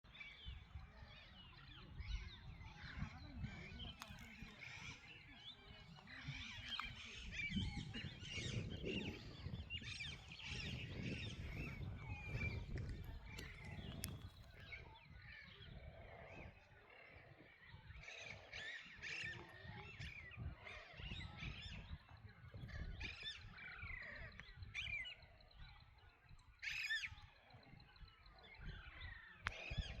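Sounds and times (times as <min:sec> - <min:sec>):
birds chirping and calling: 0:00.1 - 0:30.0.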